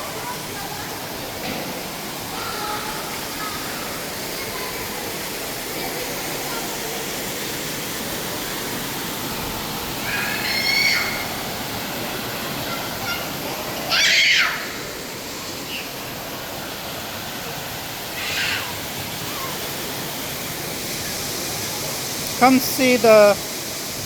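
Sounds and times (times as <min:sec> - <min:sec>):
indoor waterfall rushing: 0:00.0 - 0:24.0.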